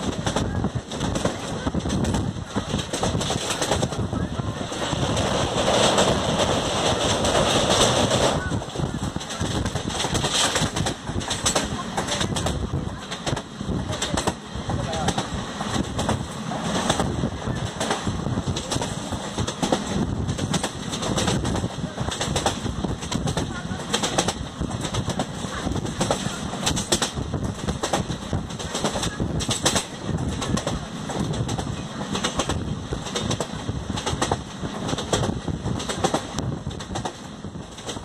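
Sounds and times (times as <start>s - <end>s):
train wheels rumbling on track: 0.0s - 38.0s
wheels clicking over rail joints: 4.7s - 38.0s.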